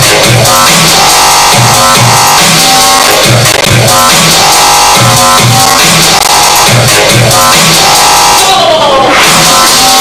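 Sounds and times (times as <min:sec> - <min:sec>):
electronic music with bass beat: 0:00.0 - 0:10.0.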